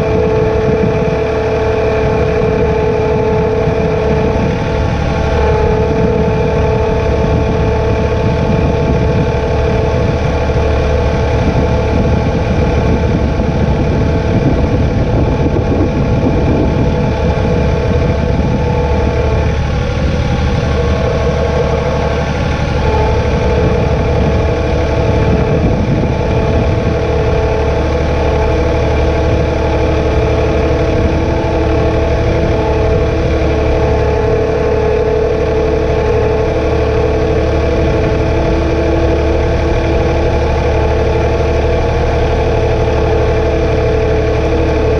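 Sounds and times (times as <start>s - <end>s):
steady whine: 0.0s - 44.9s
tractor diesel engine running: 0.0s - 44.9s.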